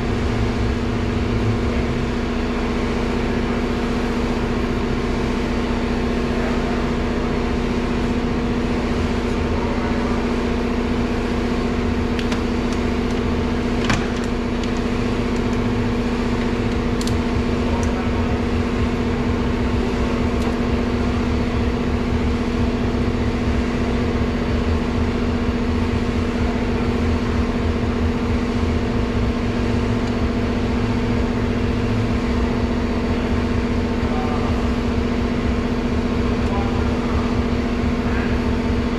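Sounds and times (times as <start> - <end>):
loud mechanical drone: 0.0 - 38.9.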